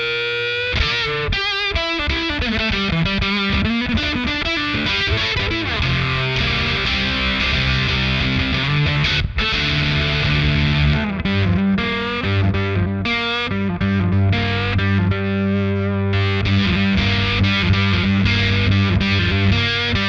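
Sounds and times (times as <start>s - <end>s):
distorted electric guitar riff: 0.0s - 20.0s.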